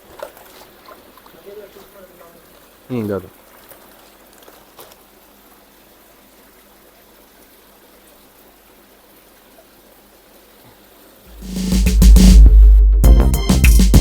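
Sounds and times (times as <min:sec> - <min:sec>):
faint rush of running water: 0:00.0 - 0:11.8.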